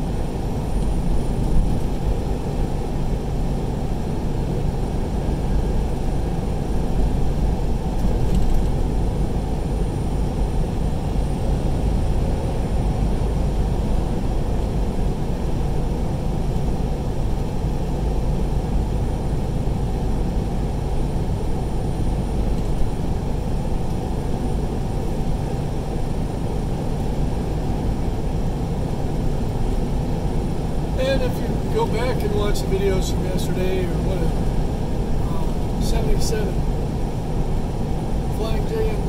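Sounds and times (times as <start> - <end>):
truck engine and tyre rumble: 0.0 - 39.0.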